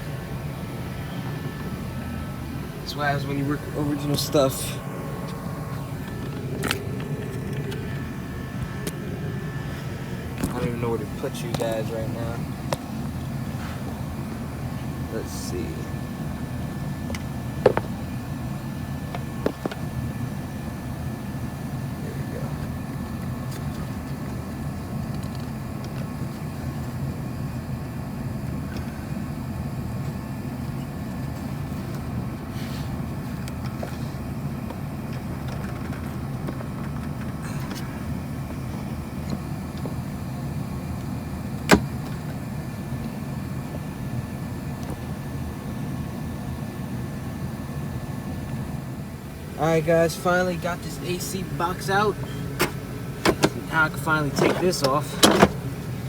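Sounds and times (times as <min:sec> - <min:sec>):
heater humming: 0:00.0 - 0:56.0.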